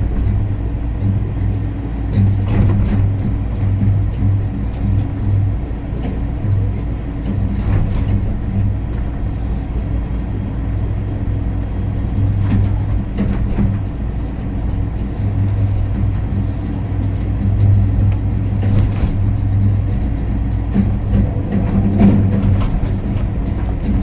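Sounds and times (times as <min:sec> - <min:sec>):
people-mover car rumble and hum: 0:00.0 - 0:24.0
faint clicks: 0:00.1 - 0:24.0.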